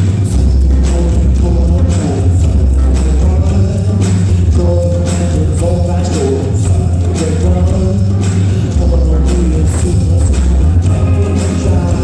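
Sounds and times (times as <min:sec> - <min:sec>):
person singing: 0:00.0 - 0:12.0
rock band playing: 0:00.0 - 0:12.0.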